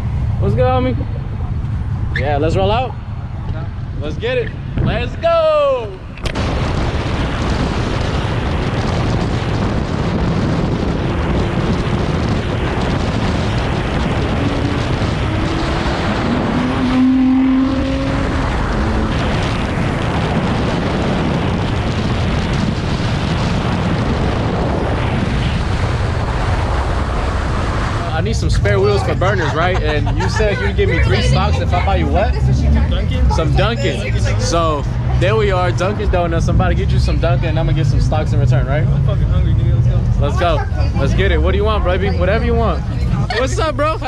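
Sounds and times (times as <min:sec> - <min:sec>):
road and wind noise: 0:00.0 - 0:44.0.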